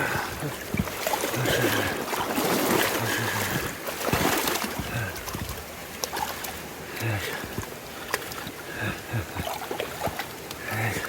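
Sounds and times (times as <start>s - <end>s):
river water rushing: 0.0s - 11.0s
small splashes and knocks: 0.5s - 8.6s, 9.3s - 11.0s.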